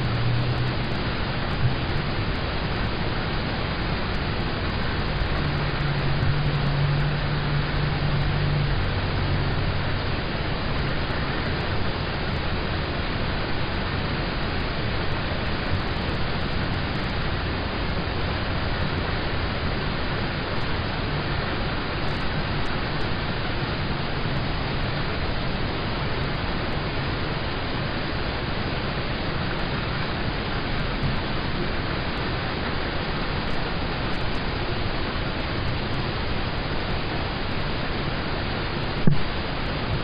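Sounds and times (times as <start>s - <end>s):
rain falling on a car: 0.0s - 40.0s.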